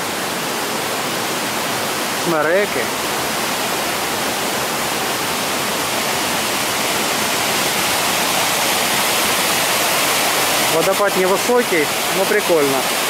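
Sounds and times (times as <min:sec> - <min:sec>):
waterfall and stream rushing over rocks: 0:00.0 - 0:13.0.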